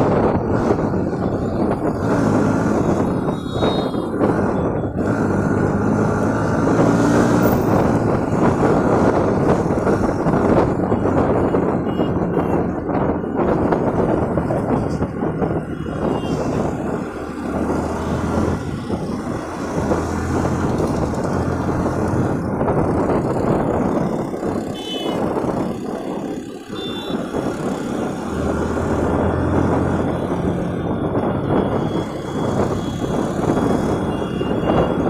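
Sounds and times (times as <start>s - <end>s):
motorcycle engine running hard: 0.0s - 35.0s.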